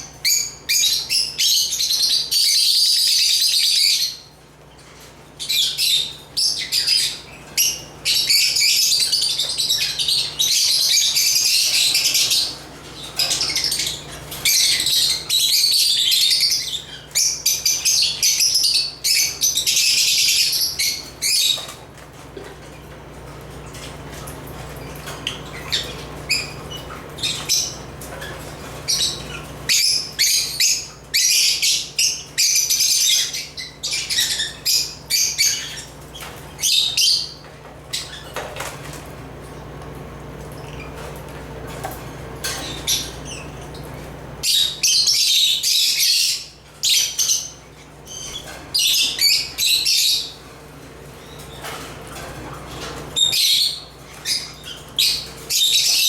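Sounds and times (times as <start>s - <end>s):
lovebirds chirping: 0.0s - 22.1s, 22.7s - 56.0s.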